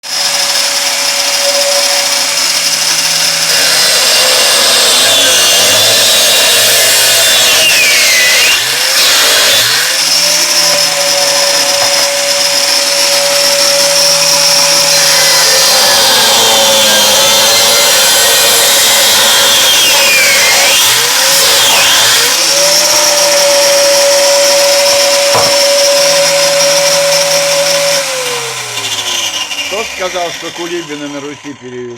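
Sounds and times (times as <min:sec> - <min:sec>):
angle grinder whining: 0:00.0 - 0:31.9.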